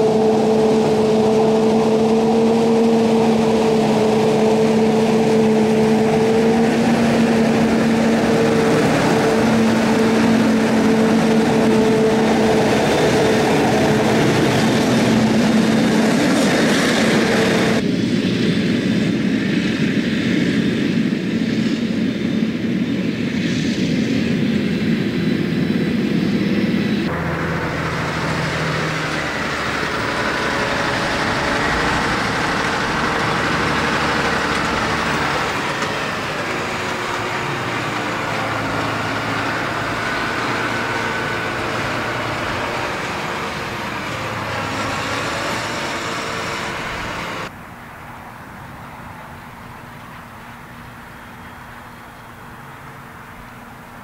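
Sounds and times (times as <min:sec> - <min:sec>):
diesel farm machinery running: 0:00.0 - 0:54.0.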